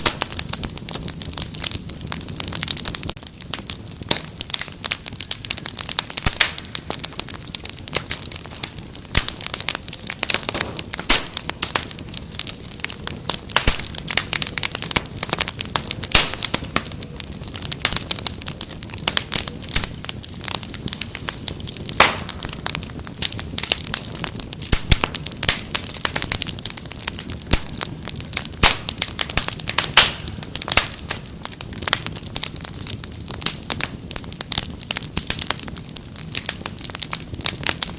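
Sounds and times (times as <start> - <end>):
low rumble of flames: 0.0 - 37.9
wood fire crackling: 0.0 - 37.9.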